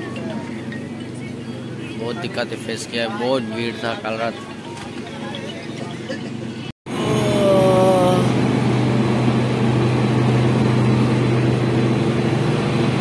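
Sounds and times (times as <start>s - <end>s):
train engine hum: 0.0s - 13.0s.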